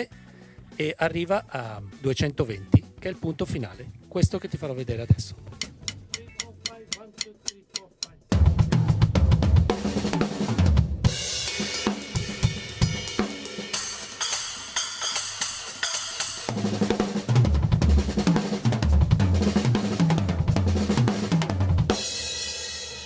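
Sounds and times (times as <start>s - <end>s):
drum kit played fast: 0.0s - 23.0s
cymbals and hi-hat: 3.5s - 23.0s.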